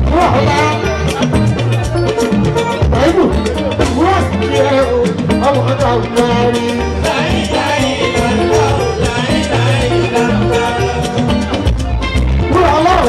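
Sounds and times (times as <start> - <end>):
man singing into a microphone: 0.0 - 2.0, 2.9 - 13.0
bass guitar: 0.0 - 13.0
electric guitar: 0.0 - 13.0
talking drums and hand drums: 0.0 - 13.0.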